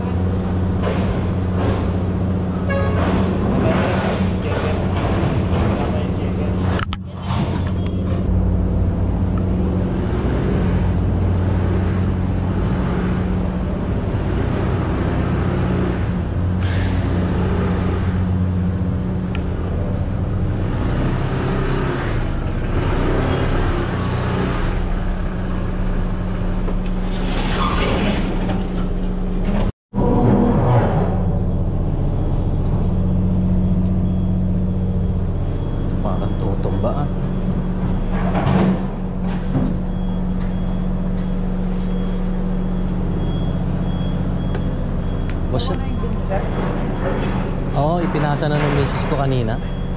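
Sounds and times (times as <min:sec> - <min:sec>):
ship engine drone: 0:00.0 - 0:49.9.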